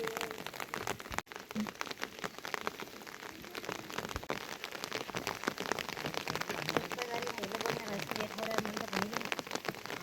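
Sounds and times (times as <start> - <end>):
raindrops hitting a surface: 0.0 - 10.0
steady hiss of rain: 0.0 - 10.0.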